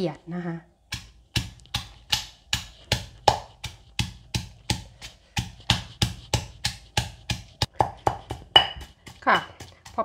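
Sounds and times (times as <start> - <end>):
stone pestle pounding in mortar: 0.8 - 10.0.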